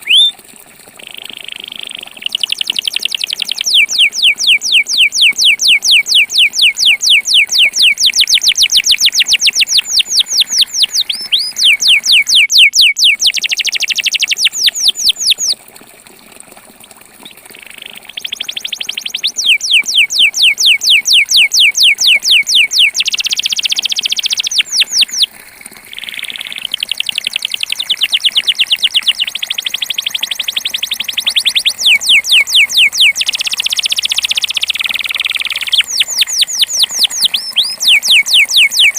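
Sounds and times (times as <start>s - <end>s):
canary singing trills: 0.0s - 0.3s, 1.2s - 15.6s, 17.2s - 25.3s, 25.9s - 38.9s.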